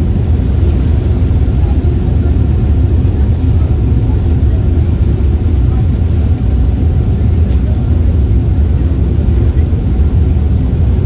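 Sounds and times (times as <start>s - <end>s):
ferry engine low rumble: 0.0s - 11.0s.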